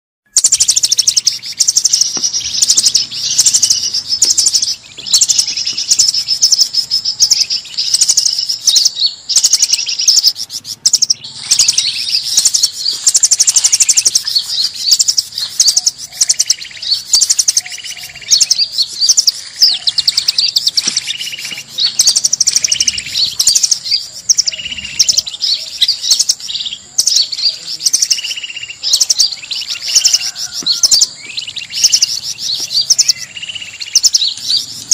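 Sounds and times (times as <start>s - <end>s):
forest birds chirping and trilling: 0.2s - 34.9s.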